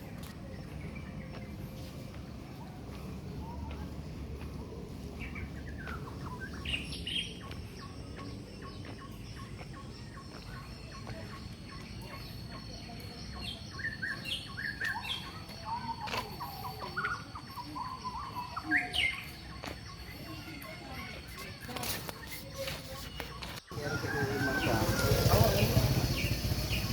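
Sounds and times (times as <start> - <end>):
birds chirping and calling: 0.0 - 26.9.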